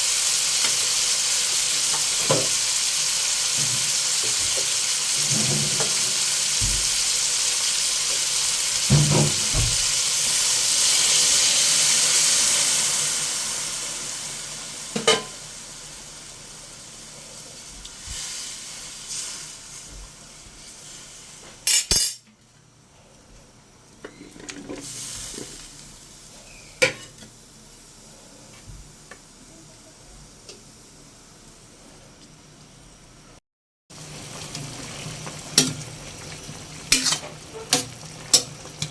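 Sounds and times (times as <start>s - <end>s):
food sizzling in a pot: 0.0s - 22.1s, 24.0s - 38.9s.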